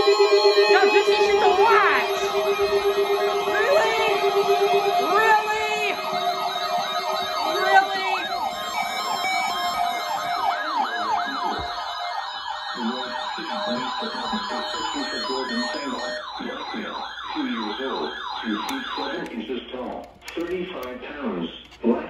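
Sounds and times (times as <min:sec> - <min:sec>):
weather radio siren alarms: 0:00.0 - 0:22.0.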